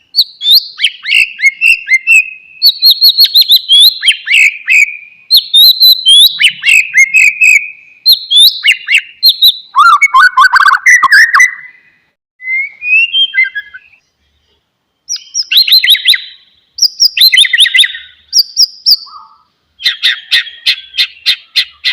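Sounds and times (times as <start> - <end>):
bird singing whistled phrases: 0.0 - 14.1, 15.1 - 21.9.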